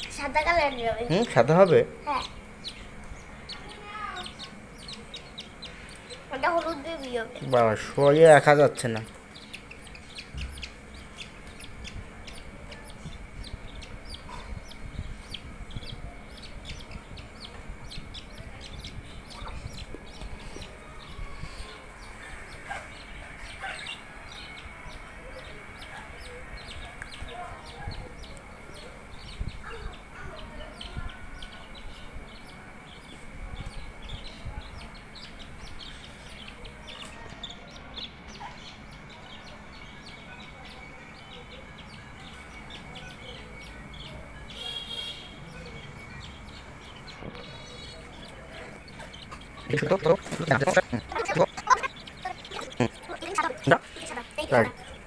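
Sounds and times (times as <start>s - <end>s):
budgies chirping: 0.0s - 55.0s.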